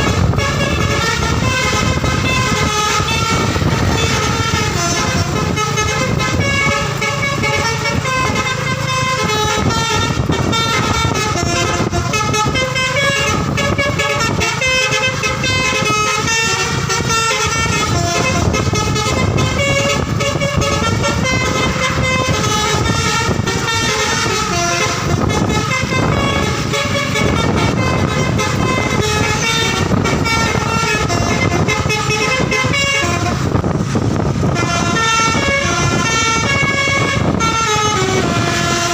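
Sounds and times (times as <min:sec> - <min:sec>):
bus air horn playing a tune: 0:00.0 - 0:38.9.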